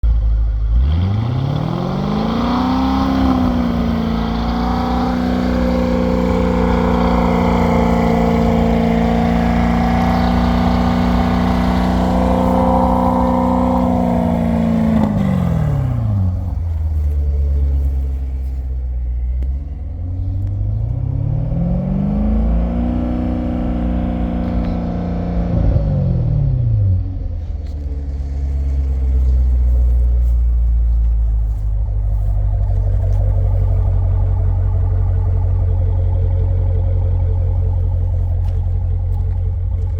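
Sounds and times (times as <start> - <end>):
car engine revving: 0.5 - 39.9.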